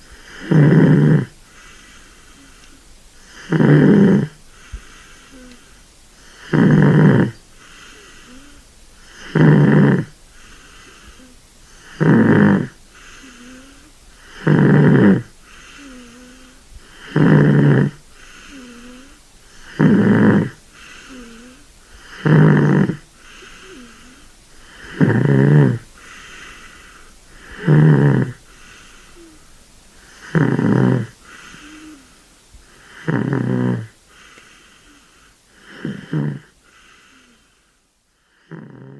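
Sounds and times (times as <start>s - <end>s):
kitten snoring: 0.0s - 37.6s, 38.2s - 38.9s
faint breath sound: 0.0s - 38.7s.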